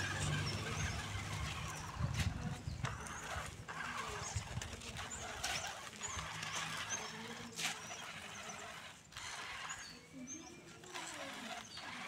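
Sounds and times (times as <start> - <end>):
tyres crunching on gravel: 0.0 - 9.9
motor and gearbox hum: 0.0 - 12.0.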